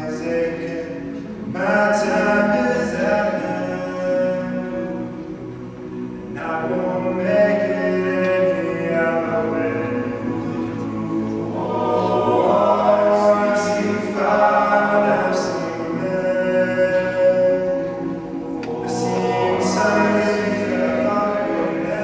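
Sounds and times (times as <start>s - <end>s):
male a cappella group singing: 0.0s - 5.3s, 6.3s - 22.0s.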